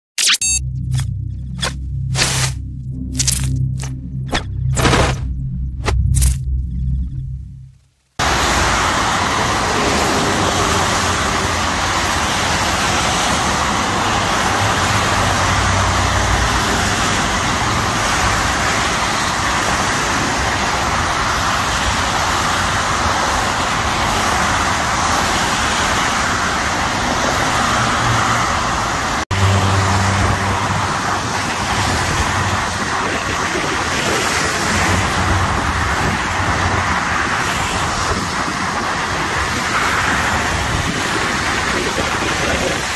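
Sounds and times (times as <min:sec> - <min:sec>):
freeway traffic on wet pavement: 0:08.2 - 0:42.9.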